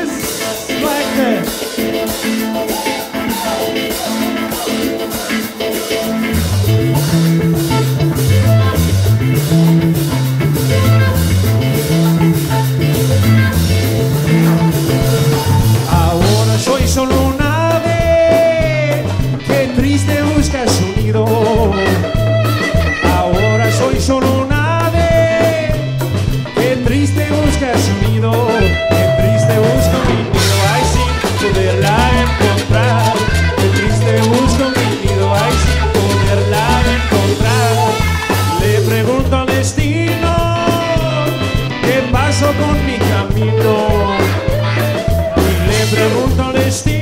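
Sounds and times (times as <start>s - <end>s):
person singing: 0.0s - 6.4s, 14.1s - 47.0s
upbeat song with bass and drums: 0.0s - 47.0s.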